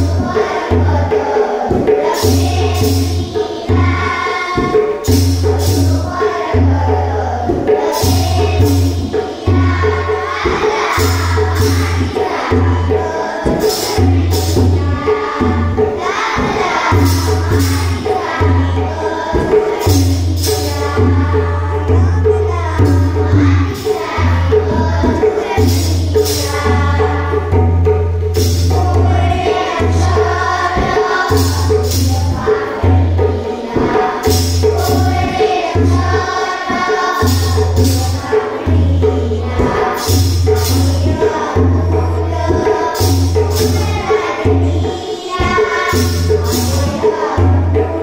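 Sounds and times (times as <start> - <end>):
children singing: 0.0 - 48.0
hand drums beat: 0.0 - 48.0.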